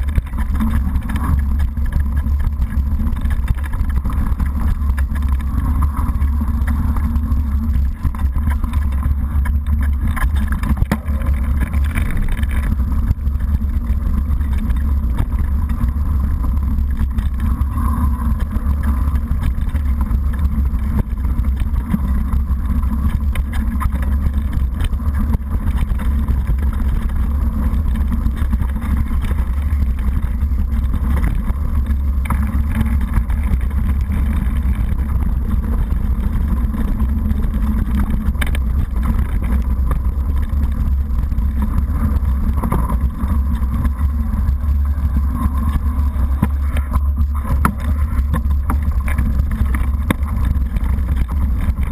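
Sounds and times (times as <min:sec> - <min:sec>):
bike tyre and frame noise: 0:00.0 - 0:51.9
wind rumble on microphone: 0:00.0 - 0:51.9.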